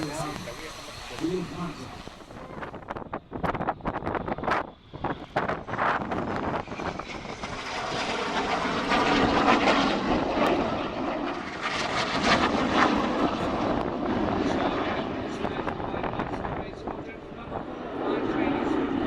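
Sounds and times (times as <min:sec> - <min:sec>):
jet engine roar: 0:00.0 - 0:19.0
wind buffeting microphone: 0:00.0 - 0:19.0.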